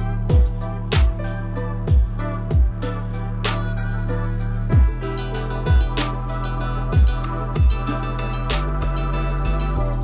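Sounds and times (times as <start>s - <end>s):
electronic beat with deep bass: 0.0s - 10.0s.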